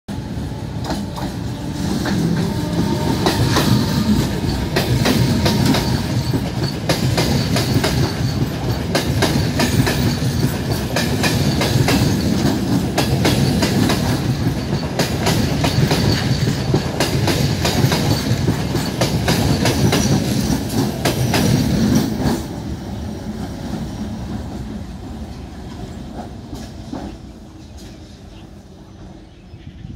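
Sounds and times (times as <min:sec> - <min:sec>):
train rumble: 0:00.1 - 0:29.9.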